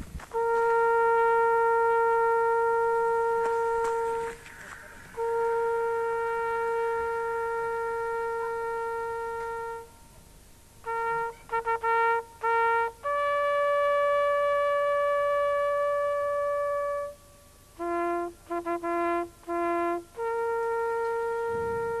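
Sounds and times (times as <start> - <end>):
solo trumpet melody: 0.1 - 22.0.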